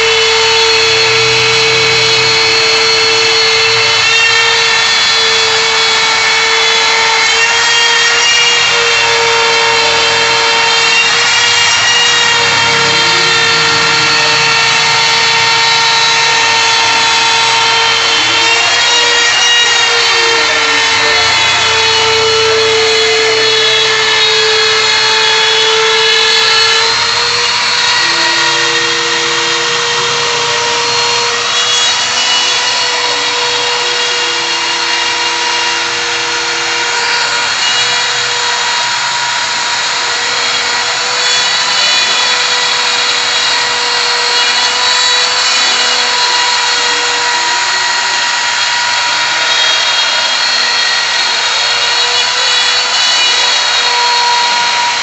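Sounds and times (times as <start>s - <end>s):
router spindle high whine: 0.0s - 55.0s.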